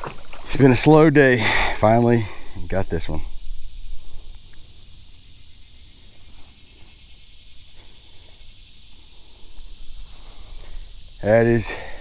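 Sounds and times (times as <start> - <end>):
high hiss: 0.0 - 12.0.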